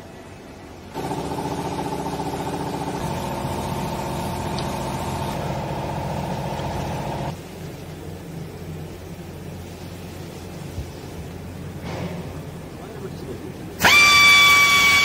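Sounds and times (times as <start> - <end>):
hydraulic motor and pump humming: 0.8 - 15.0.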